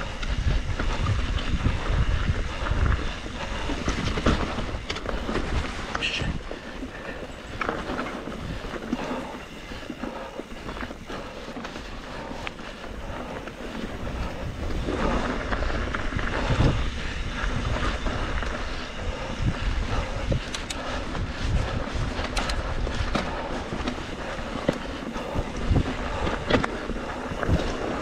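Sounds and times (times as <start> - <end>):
bike rattling over bumps: 0.0 - 28.0
bike tyres rumbling on dirt: 0.0 - 28.0
wind buffeting microphone: 0.0 - 28.0.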